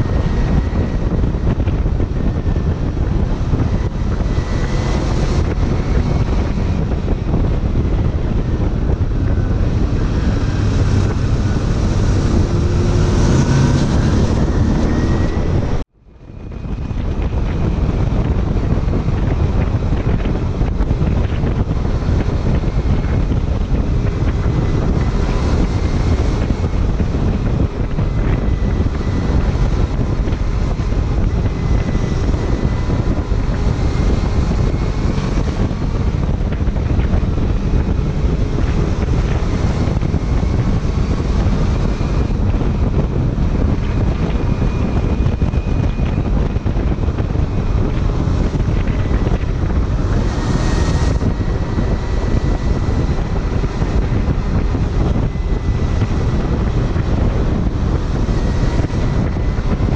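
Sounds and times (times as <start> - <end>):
motorcycle engine: 0.0 - 59.9
wind rushing on microphone: 0.0 - 59.9.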